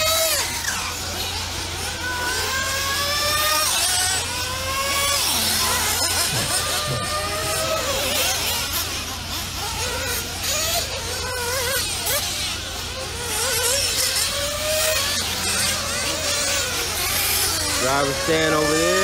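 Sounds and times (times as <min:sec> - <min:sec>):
small engines buzzing: 0:00.0 - 0:19.0.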